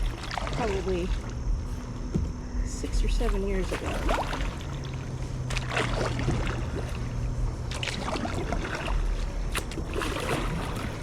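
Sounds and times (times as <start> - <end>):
paddle splashing in water: 0.0 - 1.3, 3.3 - 11.0
low rumble: 0.0 - 11.0.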